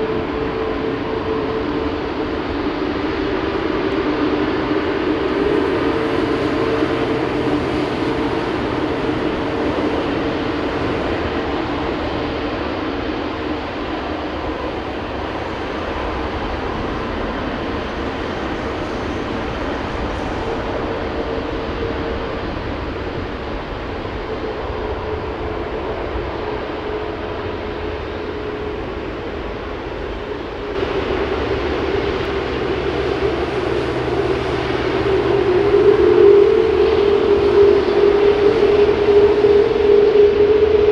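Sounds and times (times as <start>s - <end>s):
jet airliner taxiing: 0.0s - 40.9s.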